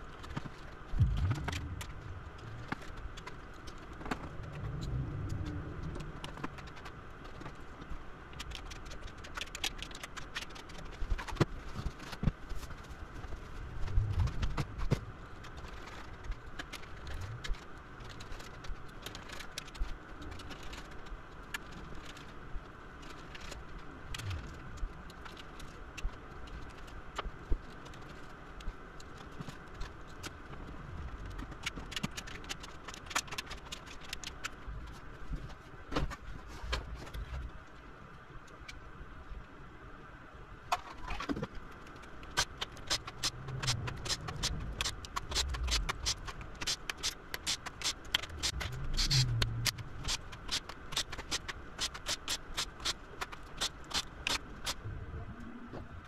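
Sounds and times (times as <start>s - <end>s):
background hum: 0.0s - 56.0s.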